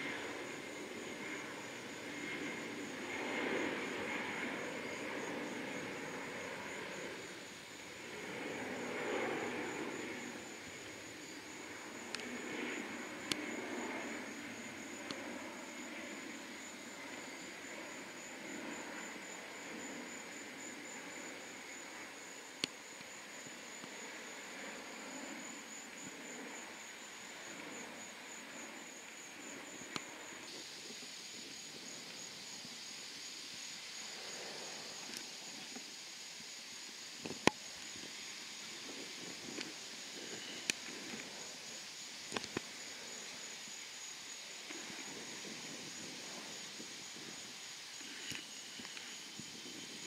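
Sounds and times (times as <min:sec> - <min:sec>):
faint hiss: 0:00.0 - 0:50.0
insects trilling: 0:00.0 - 0:50.0.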